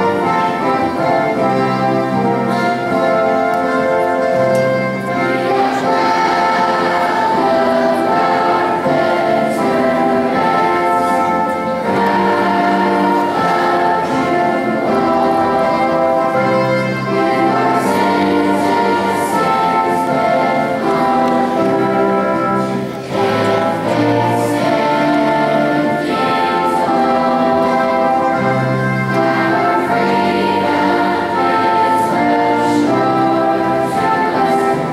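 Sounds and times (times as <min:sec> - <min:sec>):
choir singing: 0:00.0 - 0:34.9
orchestral accompaniment: 0:00.0 - 0:34.9.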